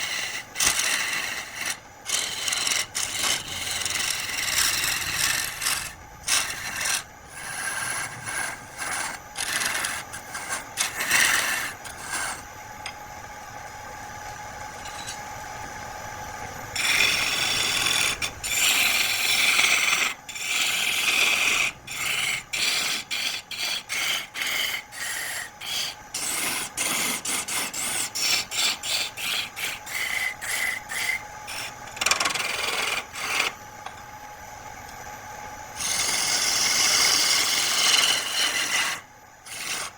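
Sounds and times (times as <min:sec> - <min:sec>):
lathe tool scraping wood: 0:00.0 - 0:12.5, 0:16.8 - 0:33.6, 0:35.8 - 0:39.9.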